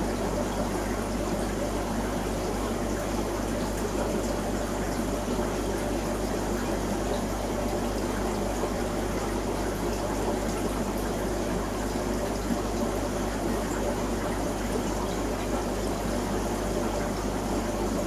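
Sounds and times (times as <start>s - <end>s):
aquarium water trickling: 0.0s - 18.0s.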